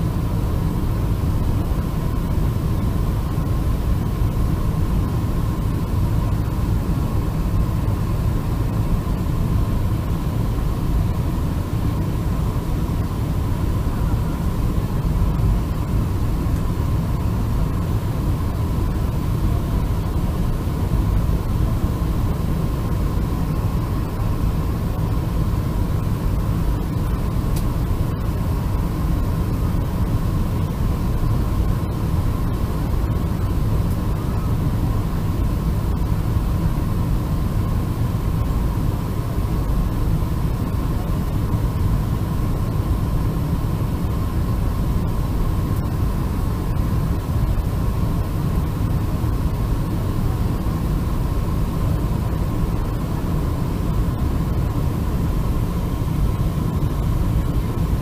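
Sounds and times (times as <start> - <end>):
airliner rumble with hiss: 0.0 - 58.0.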